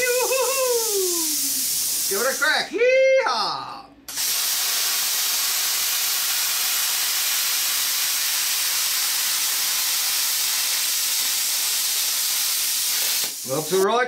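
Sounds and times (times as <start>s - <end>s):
plasma cutter hissing: 0.0s - 2.6s, 4.1s - 14.0s.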